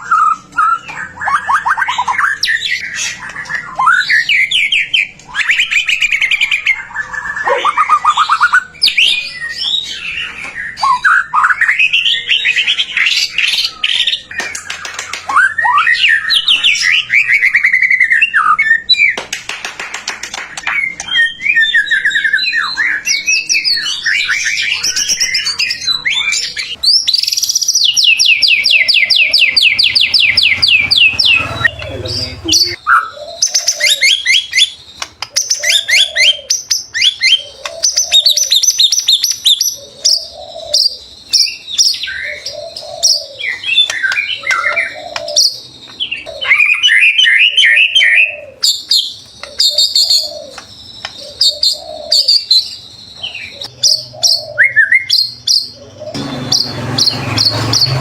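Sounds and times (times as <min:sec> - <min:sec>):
bird trilling and whistling: 0:00.0 - 0:19.2, 0:20.3 - 0:58.0.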